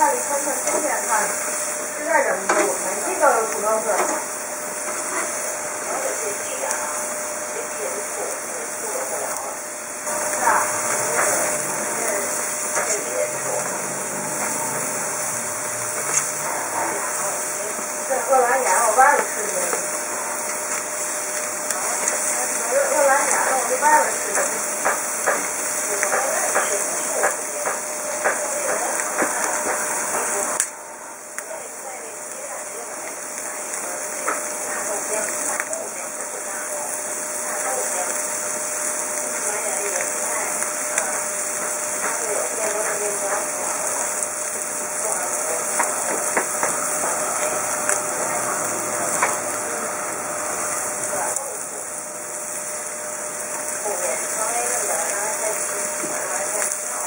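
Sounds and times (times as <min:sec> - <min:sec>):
crackles and pops: 0:00.0 - 0:57.0
steaks sizzling on a grill: 0:00.0 - 0:57.0.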